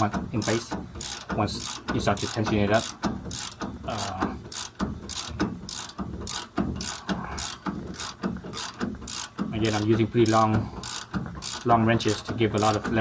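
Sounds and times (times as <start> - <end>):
ratchet wrench clicking: 0.0 - 13.0.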